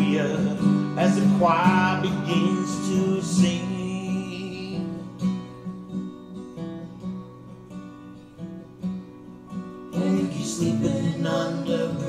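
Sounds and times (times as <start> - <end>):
acoustic guitar chords: 0.0 - 12.0
acoustic pop song over loudspeakers: 0.0 - 12.0.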